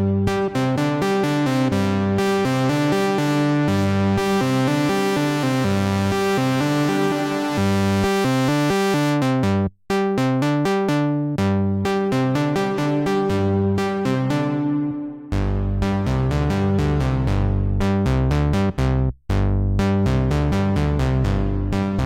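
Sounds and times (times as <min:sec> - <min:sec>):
deep synth bass line: 0:00.0 - 0:22.0
synthesizer plucked sequence: 0:00.0 - 0:22.0.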